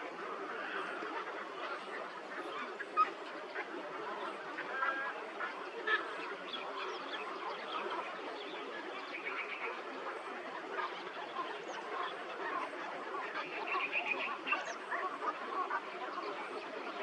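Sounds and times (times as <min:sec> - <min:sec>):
chorus of birds calling: 0:00.0 - 0:17.0.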